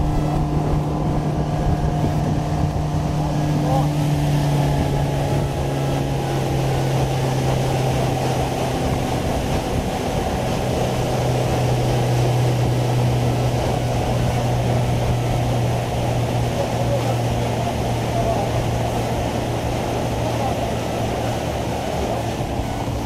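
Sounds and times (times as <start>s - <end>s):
boat motor droning: 0.0s - 23.0s
water rushing along hull: 0.0s - 23.0s.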